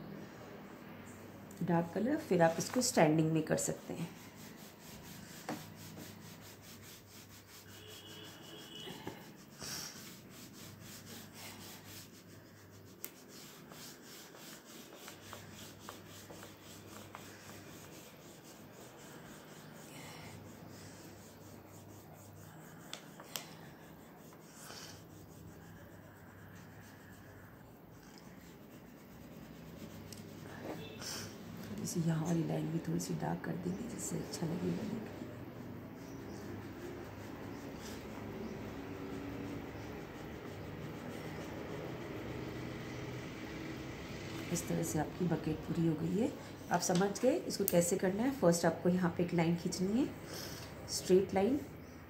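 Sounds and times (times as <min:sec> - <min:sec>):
crayon rubbing on paper: 0:01.7 - 0:51.9.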